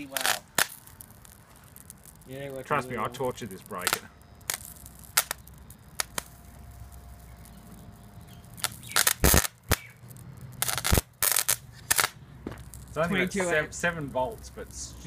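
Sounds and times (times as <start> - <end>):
electric arc cracks and pops: 0.0 - 15.0
low steady hum: 0.0 - 15.0.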